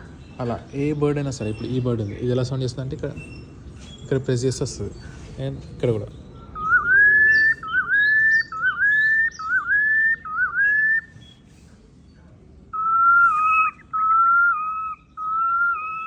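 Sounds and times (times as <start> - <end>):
recorded bird calls from speaker: 0.0 - 16.0.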